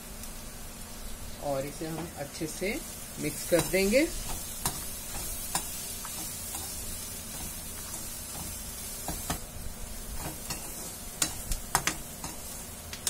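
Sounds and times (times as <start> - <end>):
masala sizzling in pan: 0.0 - 13.0.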